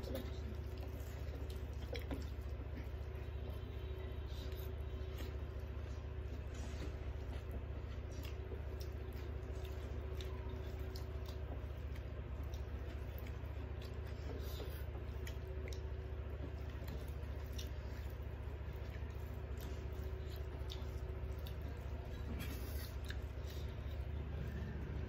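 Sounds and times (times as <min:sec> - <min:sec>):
chewing: 0:00.0 - 0:25.0
food squishing mixed by hand: 0:00.0 - 0:25.0
steady low hum: 0:00.0 - 0:25.0.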